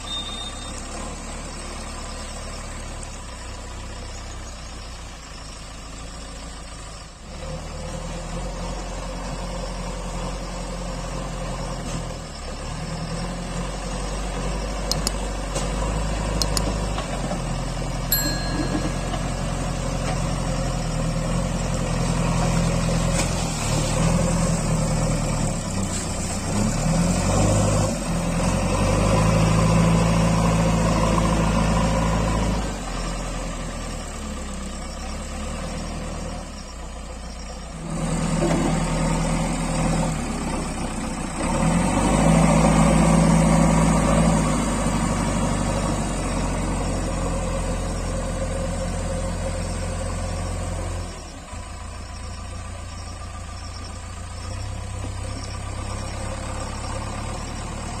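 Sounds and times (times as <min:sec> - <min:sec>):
diesel engine revving under load: 0:05.7 - 0:18.1, 0:19.1 - 0:58.0.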